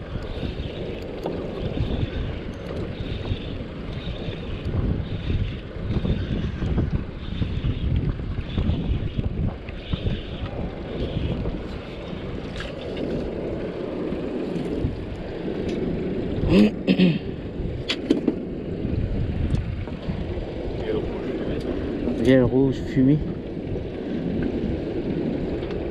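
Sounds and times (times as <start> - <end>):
small boat engine rumble: 0.0 - 25.9
wind buffeting microphone: 0.0 - 25.9.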